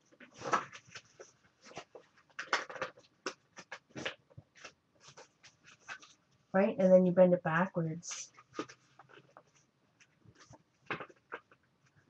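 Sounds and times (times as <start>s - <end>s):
paper folder crinkling and tapping: 0.0s - 6.2s, 8.3s - 12.0s.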